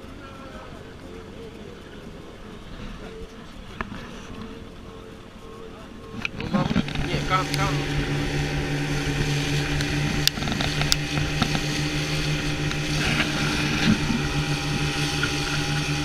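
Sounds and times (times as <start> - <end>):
outboard engine running: 0.0 - 16.0.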